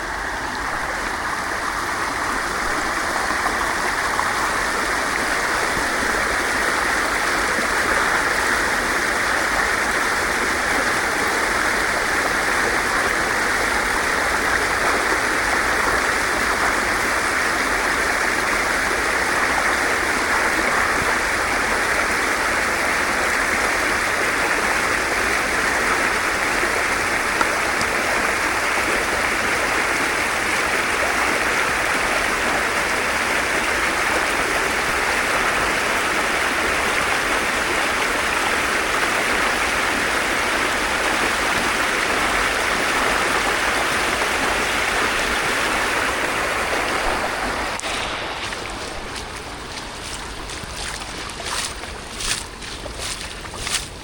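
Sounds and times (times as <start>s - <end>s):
water flowing and rushing: 0.0s - 54.0s.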